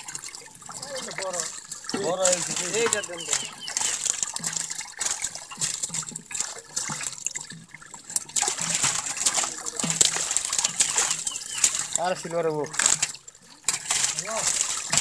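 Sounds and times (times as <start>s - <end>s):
fish thrashing in water: 0.0s - 15.0s
water splashing and sloshing: 0.0s - 15.0s.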